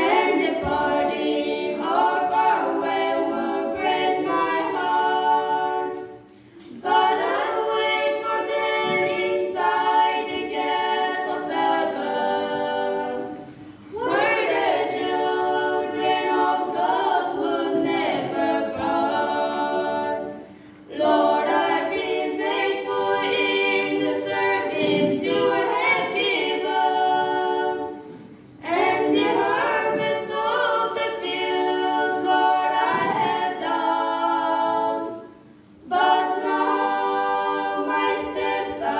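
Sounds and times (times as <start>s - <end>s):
girls singing a cappella: 0.0s - 38.9s.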